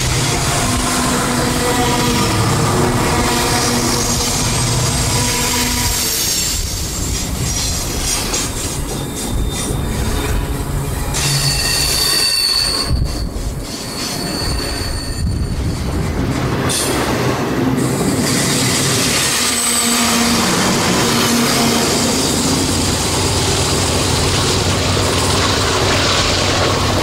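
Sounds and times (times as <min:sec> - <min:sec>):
train wheels rolling on track: 0:00.0 - 0:27.0
train wheels squealing: 0:00.0 - 0:27.0.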